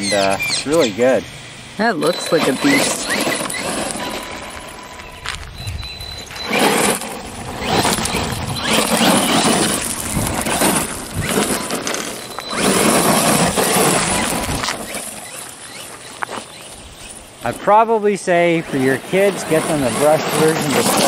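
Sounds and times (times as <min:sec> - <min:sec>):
rc truck electric drivetrain: 0:00.0 - 0:21.0
tyres churning gravel: 0:01.8 - 0:21.0.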